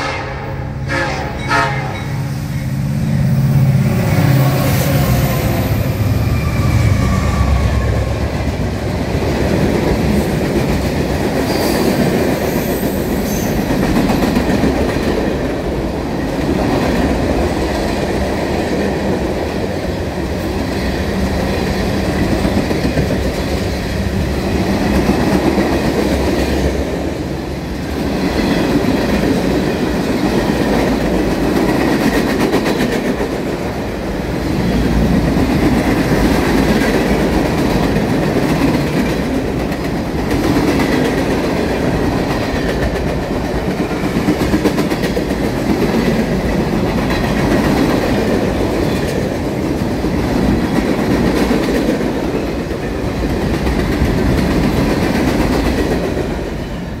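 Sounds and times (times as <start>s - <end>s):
train wheels rumbling on rails: 0.8s - 57.0s.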